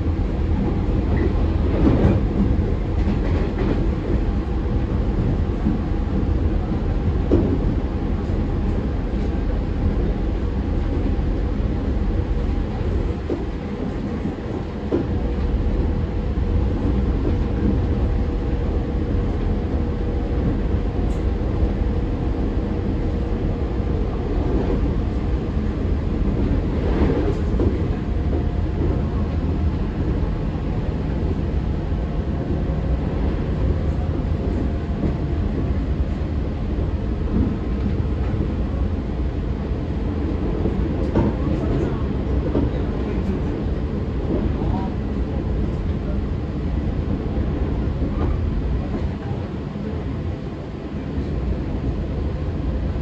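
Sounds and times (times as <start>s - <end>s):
train clatter: 0.0s - 50.2s
train wheels rumbling on rails: 0.0s - 53.0s.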